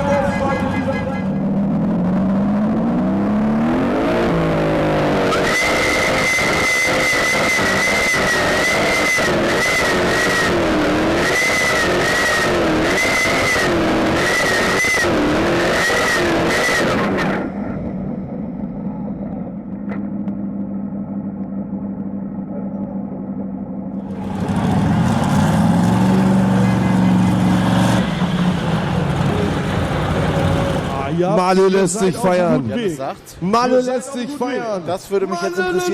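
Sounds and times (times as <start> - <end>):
loud engine with whine: 0.0 - 31.4.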